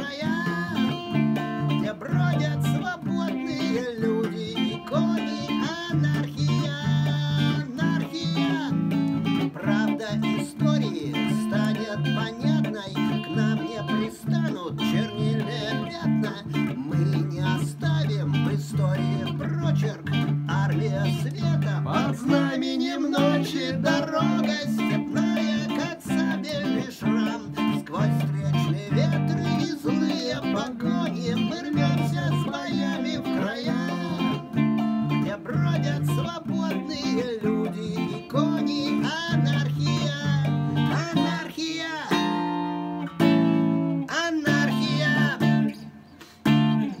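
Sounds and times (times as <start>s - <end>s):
electric guitar playing: 0.0s - 47.0s.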